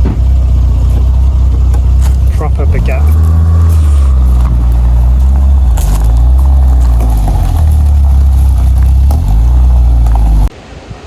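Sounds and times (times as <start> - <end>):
loud car engine revving: 0.0 - 10.5.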